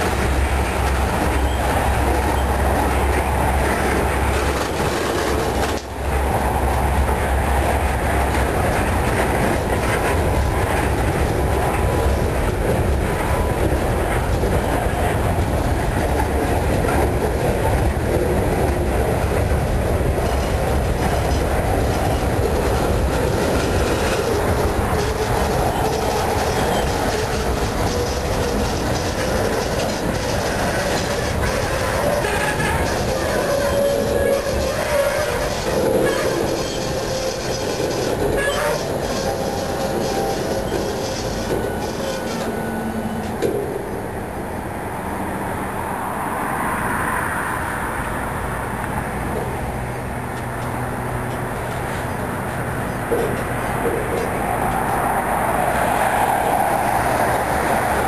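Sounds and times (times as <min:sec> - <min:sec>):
steel train wheels on rails: 0:00.0 - 0:46.7, 0:47.5 - 0:58.0.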